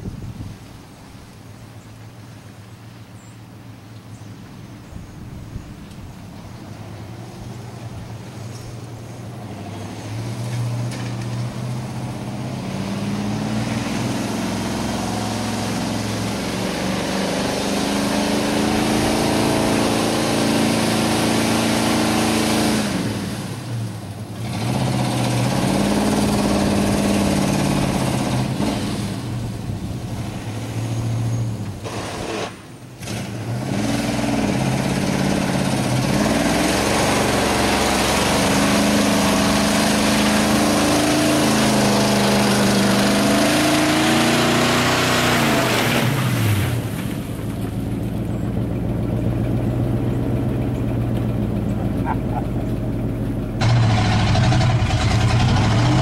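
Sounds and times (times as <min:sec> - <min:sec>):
truck engine revving: 0:09.4 - 0:56.0.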